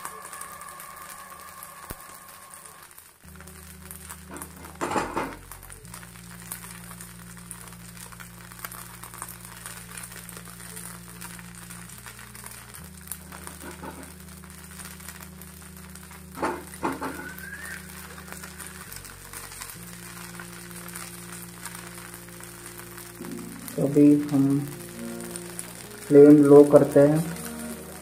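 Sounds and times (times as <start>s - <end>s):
background music of low notes: 0.0s - 28.0s
food sizzling on a hot pan: 0.0s - 28.0s.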